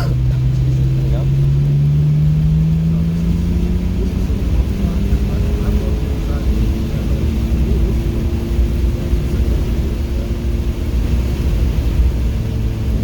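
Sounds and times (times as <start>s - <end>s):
car engine droning: 0.0s - 13.0s
road and tyre rumble: 0.0s - 13.0s.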